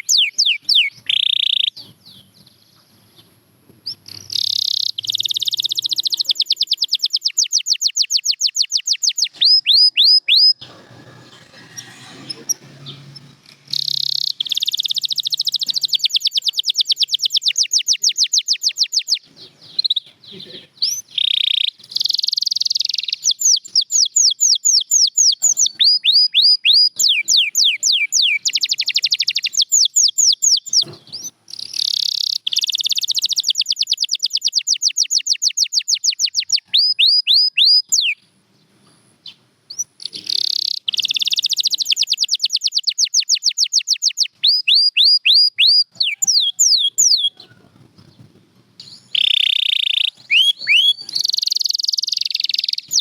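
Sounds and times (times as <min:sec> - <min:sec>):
canary singing trills: 0:00.0 - 0:38.3, 0:39.2 - 0:53.0.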